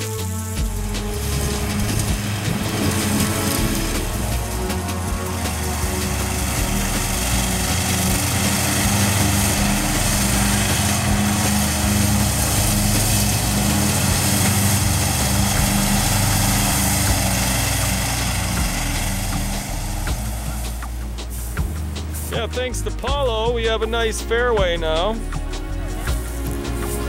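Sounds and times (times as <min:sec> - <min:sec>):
riding mower engine running: 0:00.0 - 0:27.0.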